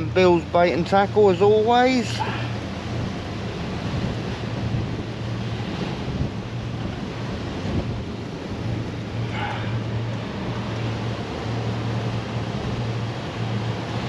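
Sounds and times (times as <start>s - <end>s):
diesel heater humming: 0.0s - 14.0s
strong wind on microphone: 2.2s - 14.0s.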